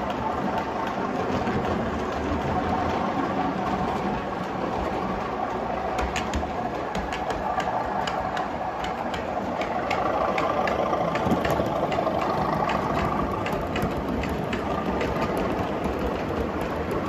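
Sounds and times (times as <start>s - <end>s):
model locomotive running: 0.0s - 17.0s
wheels clicking on track: 0.0s - 17.0s.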